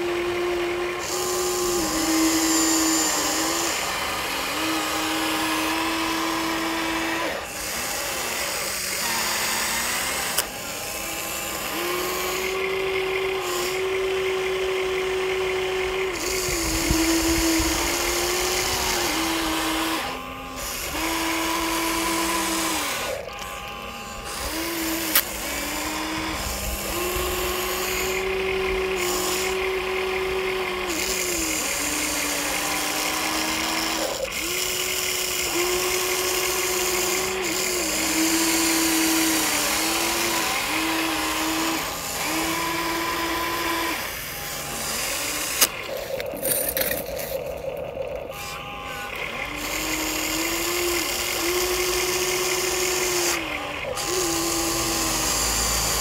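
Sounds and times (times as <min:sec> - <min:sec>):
toy gear motors whining: 0:00.0 - 0:56.0.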